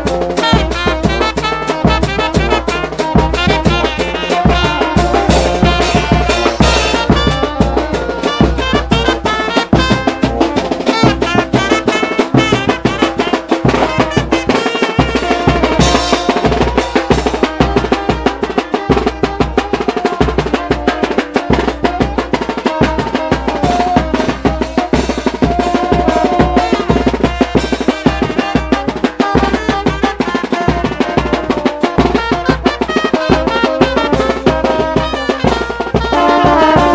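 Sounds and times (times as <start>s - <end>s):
brass band playing: 0.0s - 36.9s
fast steady drum beat: 0.0s - 36.9s.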